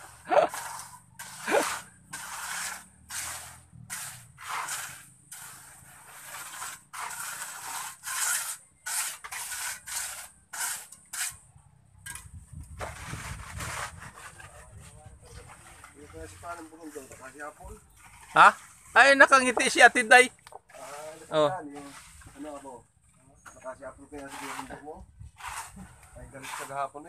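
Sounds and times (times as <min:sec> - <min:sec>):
trowel scraping mortar on concrete: 0:00.0 - 0:27.0.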